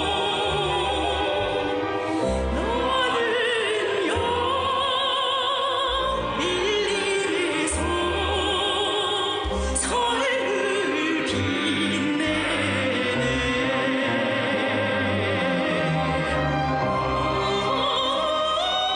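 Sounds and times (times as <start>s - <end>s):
orchestral backing: 0.0s - 18.9s.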